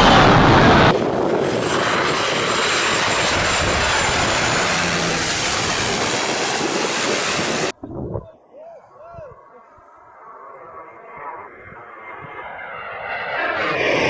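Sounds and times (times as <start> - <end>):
low-flying airplane rushing: 0.0 - 7.8, 8.9 - 14.0.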